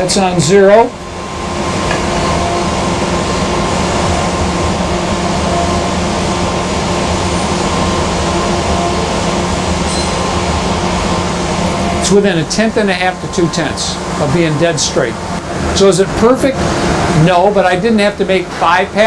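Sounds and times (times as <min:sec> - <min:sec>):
shop machinery humming: 0:00.0 - 0:19.0.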